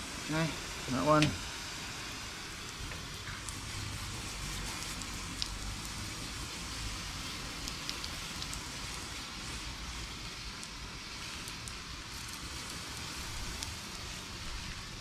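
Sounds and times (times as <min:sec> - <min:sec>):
hose nozzle spraying water: 0:00.0 - 0:15.0.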